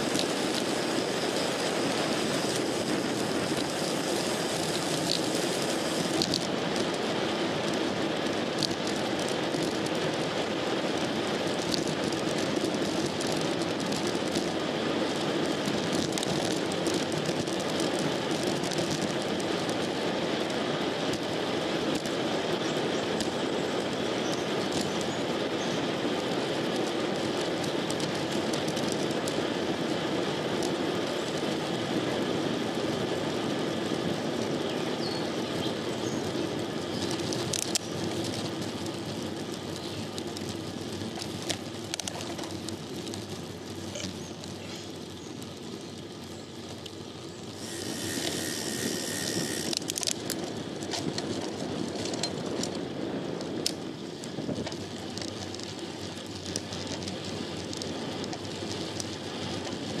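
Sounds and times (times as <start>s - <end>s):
bike tyres rolling on pavement: 0.0s - 60.0s
wind noise: 0.0s - 60.0s.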